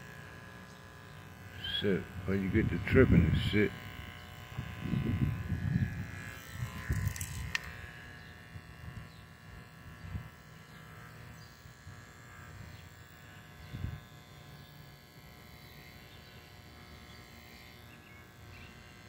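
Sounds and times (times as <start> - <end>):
electric hair clippers humming: 0.0 - 19.0.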